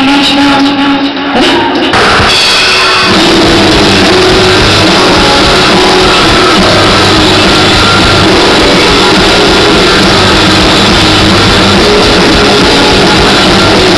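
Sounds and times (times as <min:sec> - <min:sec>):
electric guitar: 0:00.0 - 0:13.9
keyboards: 0:00.0 - 0:13.9
loud rock band: 0:00.7 - 0:13.9.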